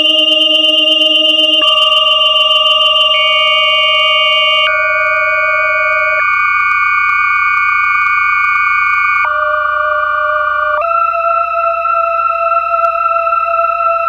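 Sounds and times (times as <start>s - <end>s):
pure electronic tones: 0.0s - 14.0s.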